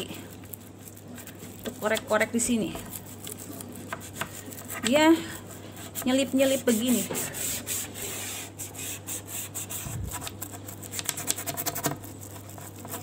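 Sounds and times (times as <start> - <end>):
toothbrush scrubbing wood: 0.0 - 13.0.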